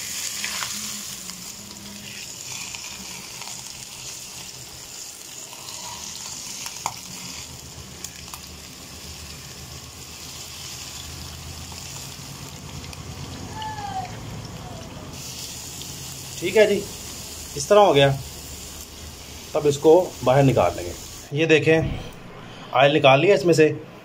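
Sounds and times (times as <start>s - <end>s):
hot oil sizzling: 0.0s - 21.4s.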